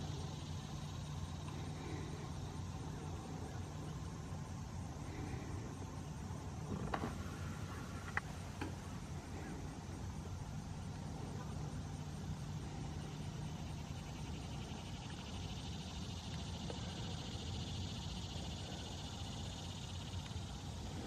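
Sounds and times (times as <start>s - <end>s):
distant motor rumble: 0.0s - 21.0s
insect trilling: 0.0s - 21.0s.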